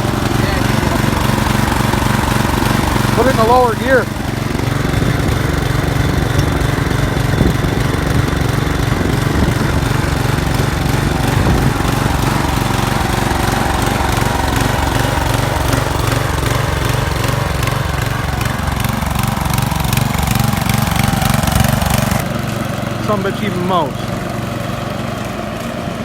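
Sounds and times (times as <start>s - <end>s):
riding mower engine chugging: 0.0s - 26.0s.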